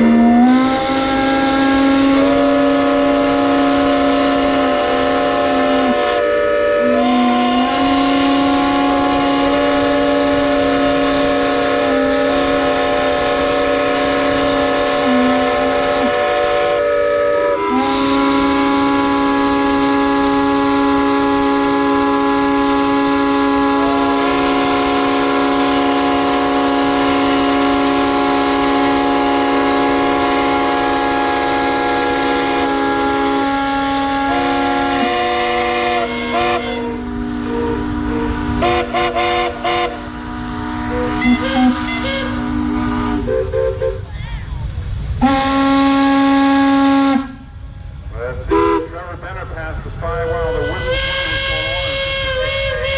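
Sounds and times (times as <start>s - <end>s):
steam whistles blowing: 0.0s - 44.1s, 45.2s - 47.5s, 48.5s - 48.9s, 50.2s - 52.9s.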